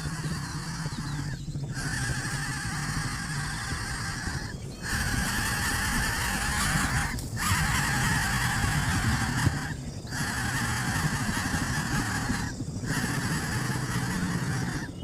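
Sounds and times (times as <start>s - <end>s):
bird chick hissing: 0.0s - 14.9s.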